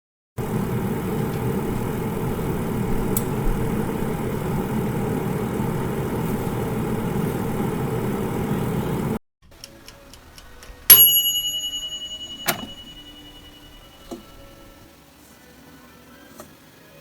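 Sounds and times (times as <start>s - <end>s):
air fryer fan humming: 0.4s - 9.2s, 10.9s - 16.9s.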